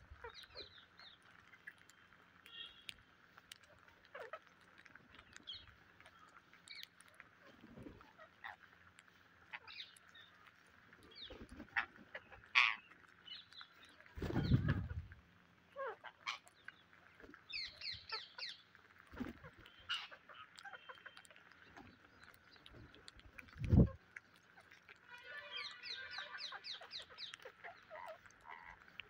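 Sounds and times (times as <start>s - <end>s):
parakeets squawking and chirping: 0.0s - 2.9s, 3.6s - 29.0s
wingbeats fluttering: 3.3s - 15.2s, 15.9s - 29.0s.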